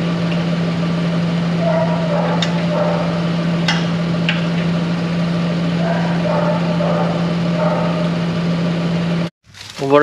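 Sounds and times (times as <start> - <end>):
farm machine engine droning: 0.0 - 10.0.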